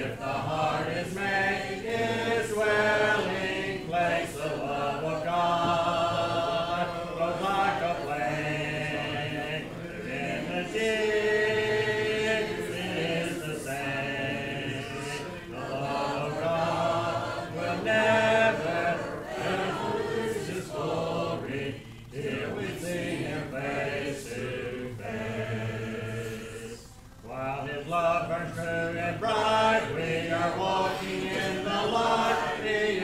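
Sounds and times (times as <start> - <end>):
congregation singing a hymn: 0.0 - 33.0.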